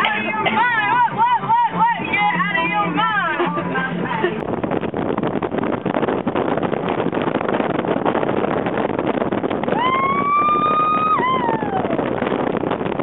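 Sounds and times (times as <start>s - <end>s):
car wind and road noise: 0.0s - 13.0s
wind buffeting microphone: 0.0s - 13.0s.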